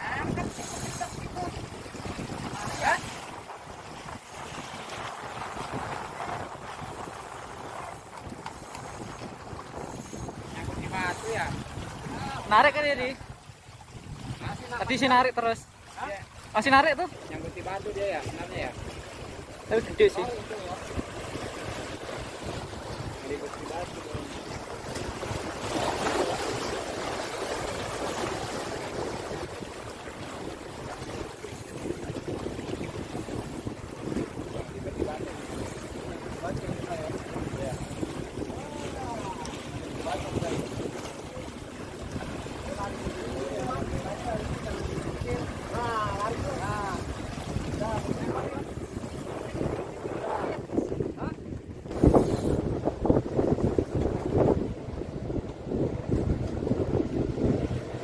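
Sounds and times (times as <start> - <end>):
sea water washing against rocks: 0.0 - 58.0
wind buffeting microphone: 0.0 - 58.0.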